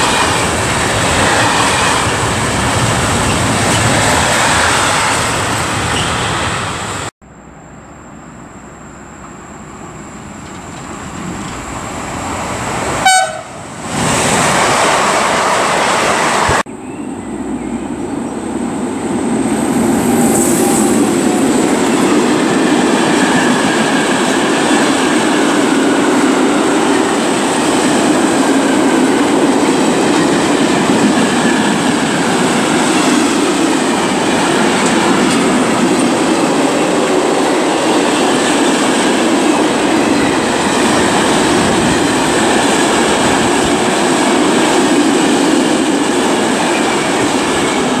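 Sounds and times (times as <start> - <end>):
train wheels rumbling on rails: 0.0 - 7.1, 9.0 - 48.0.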